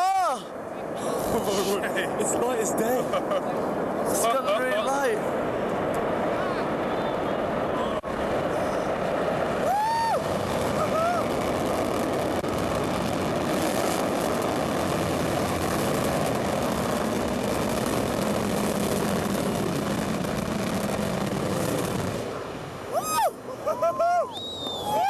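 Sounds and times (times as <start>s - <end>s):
rocket engine roar: 0.0s - 25.0s.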